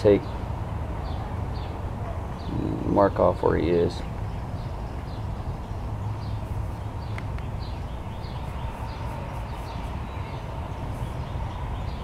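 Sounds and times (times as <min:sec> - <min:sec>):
small birds chirping: 0:00.0 - 0:12.0
low outdoor rumble: 0:00.8 - 0:12.0.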